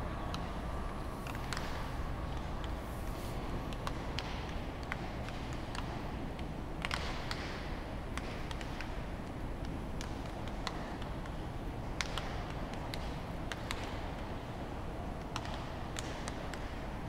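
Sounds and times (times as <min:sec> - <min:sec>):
low open-air rumble: 0:00.0 - 0:17.0.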